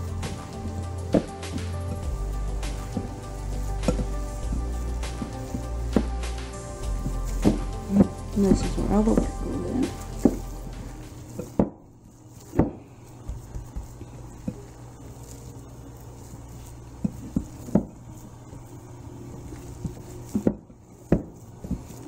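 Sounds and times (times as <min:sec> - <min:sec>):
hands kneading wet meat: 0:00.0 - 0:22.0.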